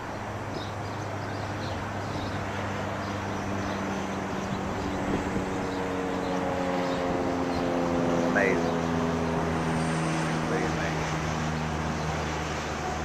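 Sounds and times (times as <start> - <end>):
distant engine drone: 0.0 - 13.0
outdoor background noise: 0.0 - 13.0.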